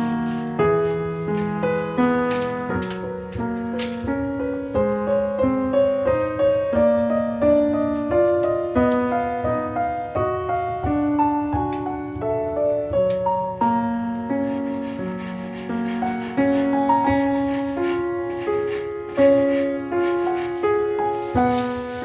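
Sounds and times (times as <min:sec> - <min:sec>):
calm piano music: 0:00.0 - 0:22.0.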